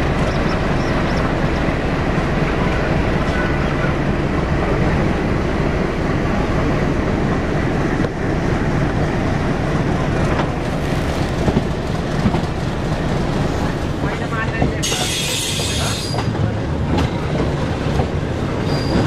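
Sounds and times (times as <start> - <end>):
diesel locomotive engine: 0.0 - 19.0
train wheels rumbling on rail: 0.0 - 19.0.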